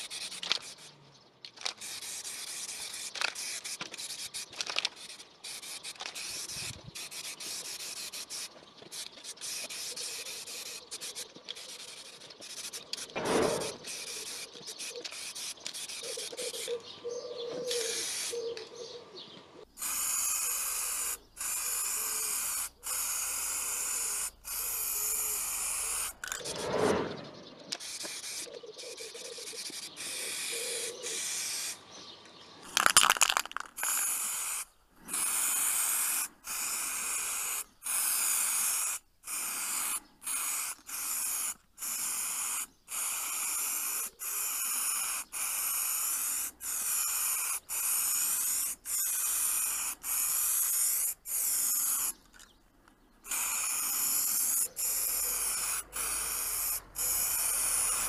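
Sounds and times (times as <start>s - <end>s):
aerosol spray can hissing: 1.7s - 16.7s, 17.7s - 18.4s, 19.8s - 26.6s, 27.8s - 28.5s, 29.2s - 31.8s, 32.8s - 52.2s, 53.3s - 58.0s.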